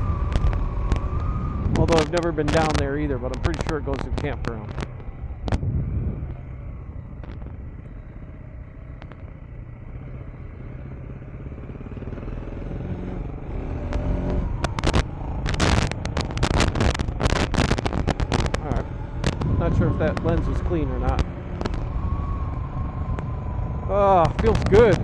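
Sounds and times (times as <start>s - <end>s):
wind buffeting microphone: 0.0s - 9.8s, 13.2s - 25.0s
motorcycle engine running: 0.0s - 25.0s.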